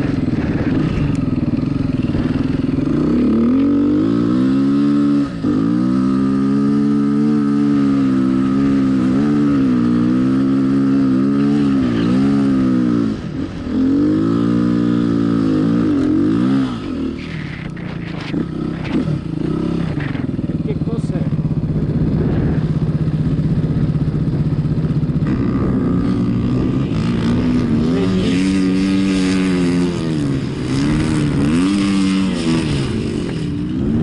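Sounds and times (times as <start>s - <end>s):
off-road motorcycle engine: 0.0s - 34.0s.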